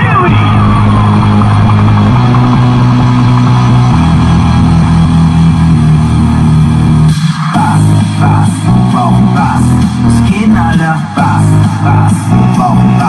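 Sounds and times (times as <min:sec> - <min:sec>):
bass-heavy music from car speakers: 0:00.0 - 0:13.0.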